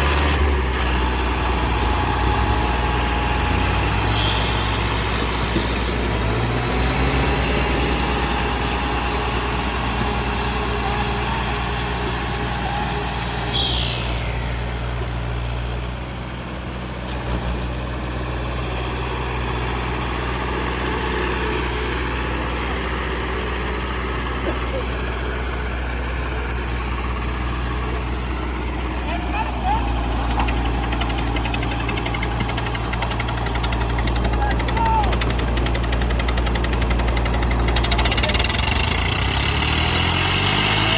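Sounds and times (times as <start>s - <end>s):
diesel tractor engines running: 0.0s - 40.9s.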